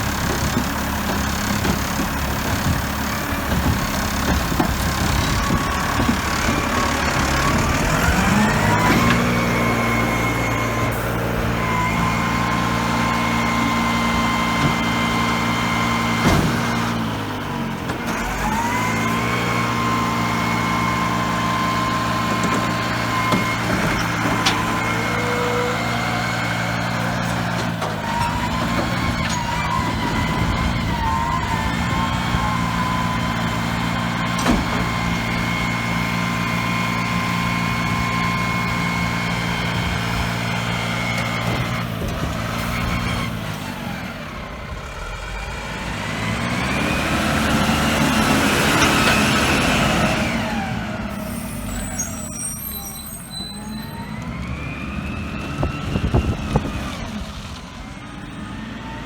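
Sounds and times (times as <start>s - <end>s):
garbage truck engine revving: 0.0s - 59.0s.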